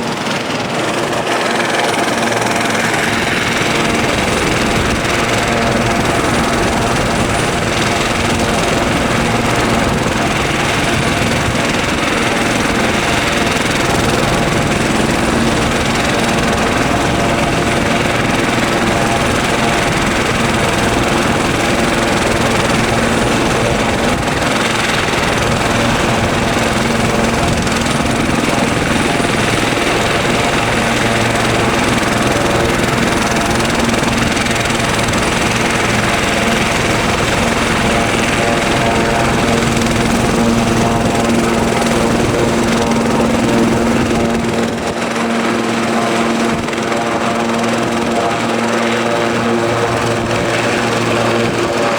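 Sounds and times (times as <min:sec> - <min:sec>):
helicopter turbine and rotor noise: 0:00.0 - 0:51.9.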